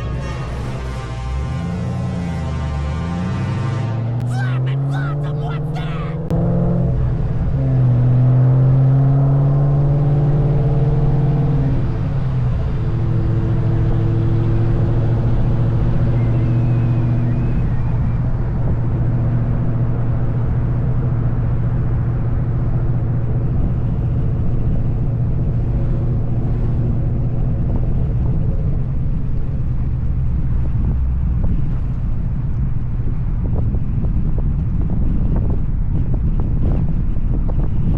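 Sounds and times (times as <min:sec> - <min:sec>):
car exhaust drone: 0:06.2 - 0:37.9.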